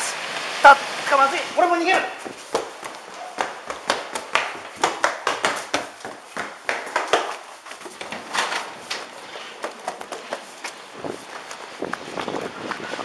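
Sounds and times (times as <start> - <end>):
running footsteps: 1.8 - 13.0.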